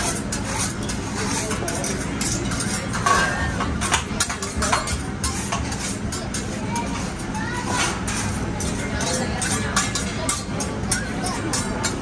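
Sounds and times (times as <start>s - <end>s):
metal utensils clanking on a griddle: 0.0s - 12.0s
restaurant chatter: 0.0s - 12.0s.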